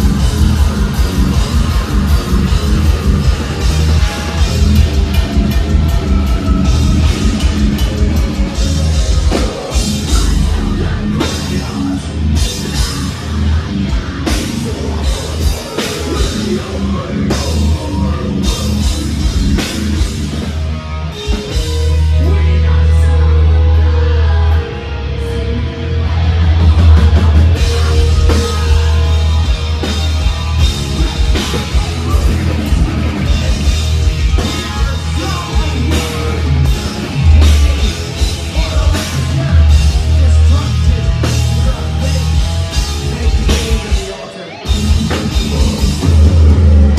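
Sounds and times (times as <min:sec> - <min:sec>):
metal band playing live: 0:00.0 - 0:46.9.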